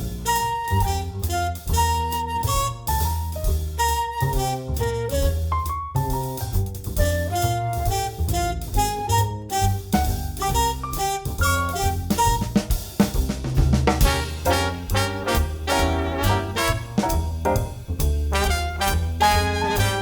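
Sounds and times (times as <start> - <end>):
upbeat jazz with brass and drums: 0.0 - 20.0.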